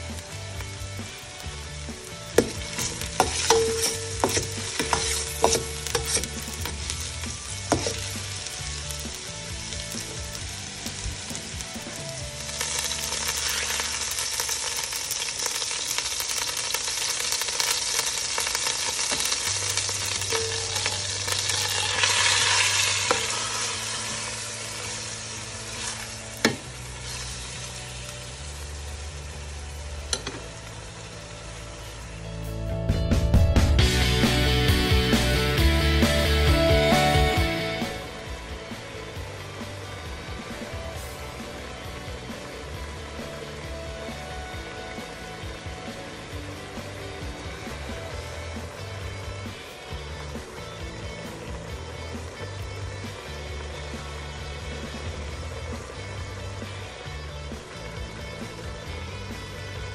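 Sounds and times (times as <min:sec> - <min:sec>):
onion and garlic sizzling in oil: 0:00.0 - 0:32.6, 0:33.3 - 0:59.9.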